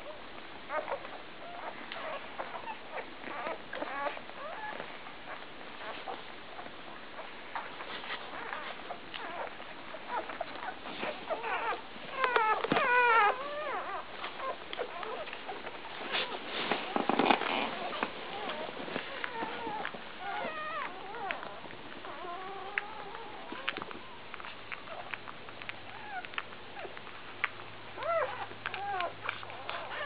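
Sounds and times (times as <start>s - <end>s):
puppies squeaking and whimpering: 0.0s - 30.0s
soft rustles and clicks: 0.0s - 30.0s.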